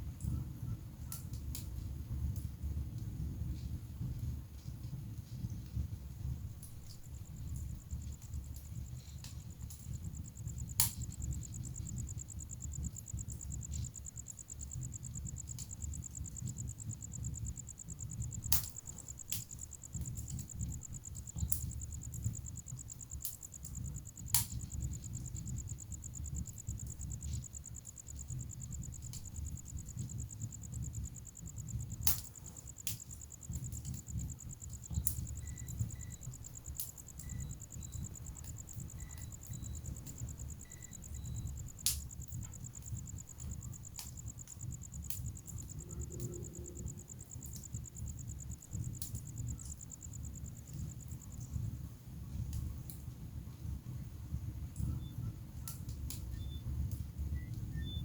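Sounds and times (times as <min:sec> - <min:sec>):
wood fire flame flutter: 0:00.0 - 0:58.0
logs popping and crackling: 0:01.0 - 0:51.7.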